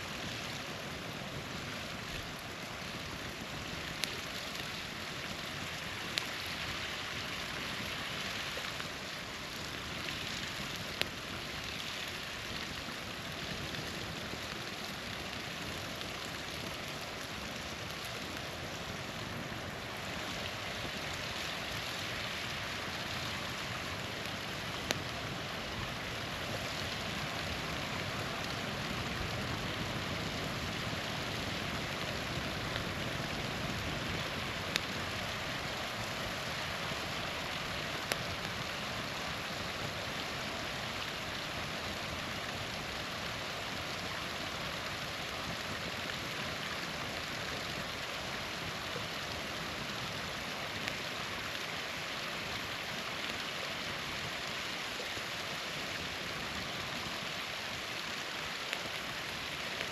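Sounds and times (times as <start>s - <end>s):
small waterfall rushing: 0.0s - 59.9s
campfire wood popping: 0.1s - 55.3s, 58.2s - 59.9s.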